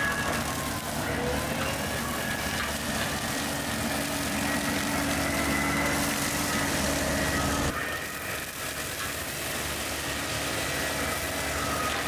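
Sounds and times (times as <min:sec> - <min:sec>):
brush cutter whining: 0:00.0 - 0:12.0
excavator diesel engine running: 0:00.0 - 0:12.0.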